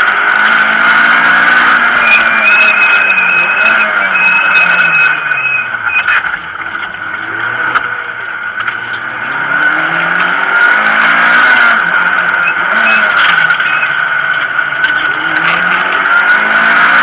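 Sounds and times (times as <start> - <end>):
car engine accelerating: 0.0 - 17.0
high whine: 1.0 - 17.0.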